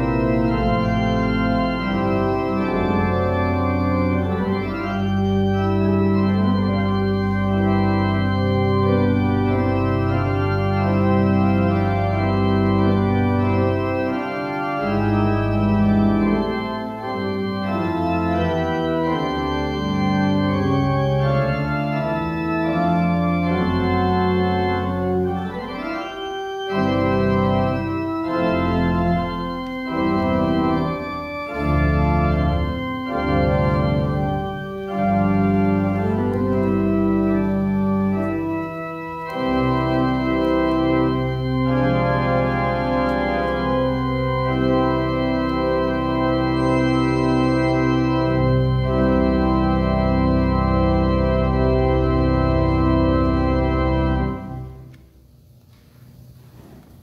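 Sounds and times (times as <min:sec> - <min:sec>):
church organ chords: 0:00.0 - 0:55.2.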